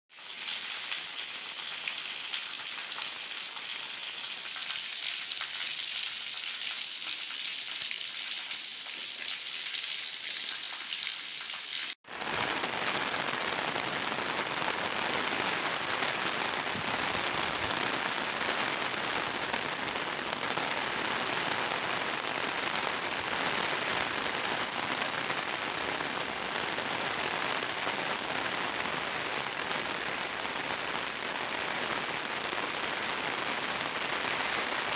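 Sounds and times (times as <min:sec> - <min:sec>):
rain on concrete and plants: 0:00.1 - 0:34.9.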